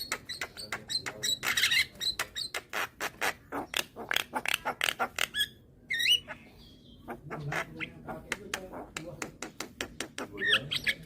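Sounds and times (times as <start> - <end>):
bird rasping clicking calls: 0.0 - 6.4, 7.0 - 11.0.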